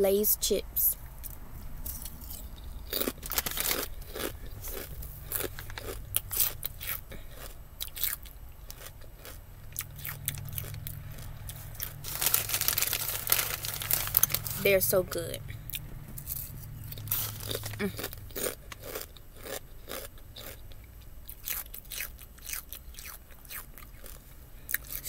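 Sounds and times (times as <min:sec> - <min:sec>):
person crunching chips: 0:01.9 - 0:14.8, 0:15.7 - 0:20.7, 0:21.3 - 0:25.0.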